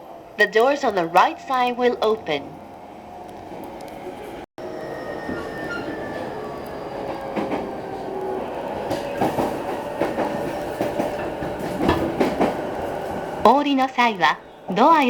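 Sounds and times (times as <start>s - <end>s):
electric train rumble: 0.0s - 15.0s
steady tones: 0.0s - 15.0s
wheels clacking over rail joints: 0.0s - 15.0s.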